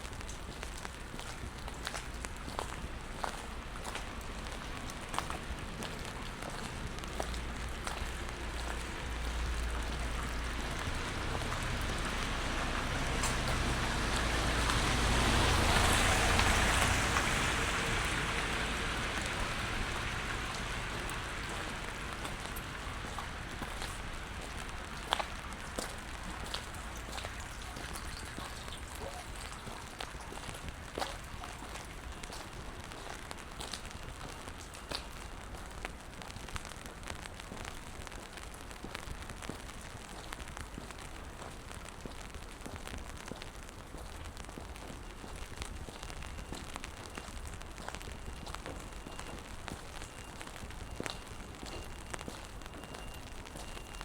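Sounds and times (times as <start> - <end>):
rain on wet pavement: 0.0 - 54.0
tyres hissing on wet street: 0.0 - 54.0.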